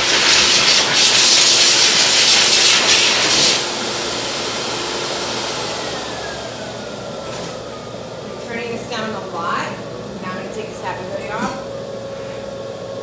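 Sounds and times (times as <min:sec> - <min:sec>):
pet dryer blowing air: 0:00.0 - 0:13.0.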